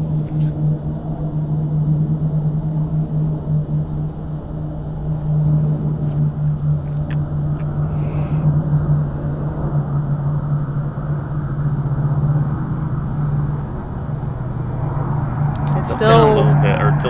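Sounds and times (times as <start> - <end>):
jet flying overhead: 0.1 - 17.0.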